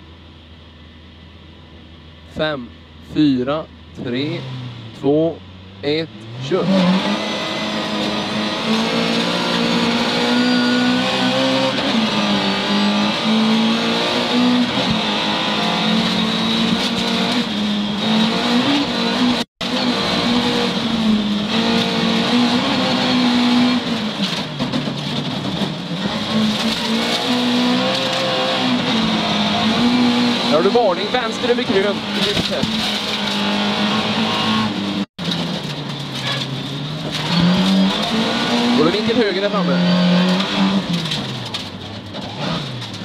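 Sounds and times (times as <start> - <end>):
car engine revving through gears: 4.0 - 5.1, 6.0 - 43.0.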